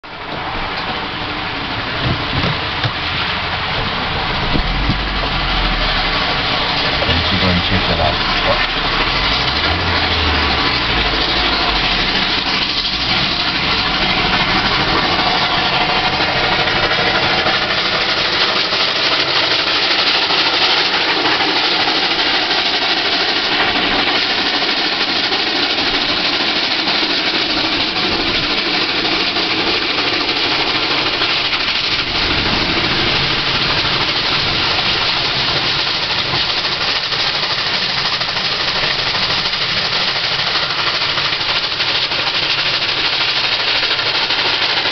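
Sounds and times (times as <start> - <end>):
steam locomotive passing: 0.0 - 44.9.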